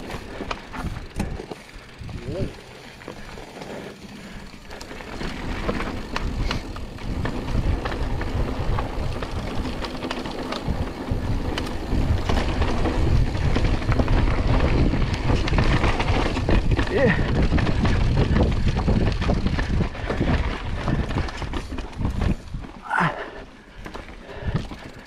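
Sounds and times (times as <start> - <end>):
wind buffeting microphone: 0.0 - 3.4, 4.3 - 25.0
bike rattling over ground: 0.0 - 25.0.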